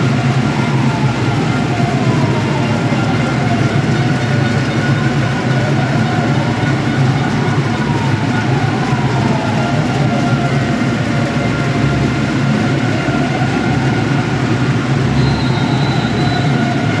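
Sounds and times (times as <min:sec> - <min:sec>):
crowd shouting and noise-making: 0:00.0 - 0:17.0.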